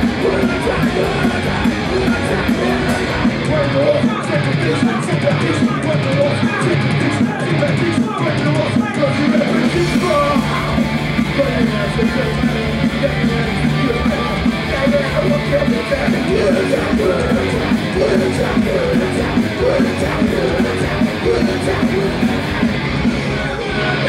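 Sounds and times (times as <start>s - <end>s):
punk rock band playing live: 0.0s - 24.0s.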